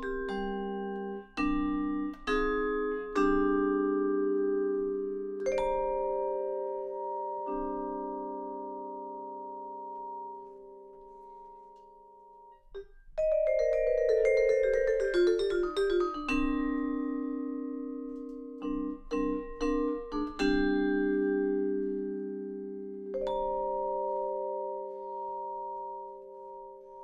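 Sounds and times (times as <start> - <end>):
solo vibraphone: 0.0 - 27.0.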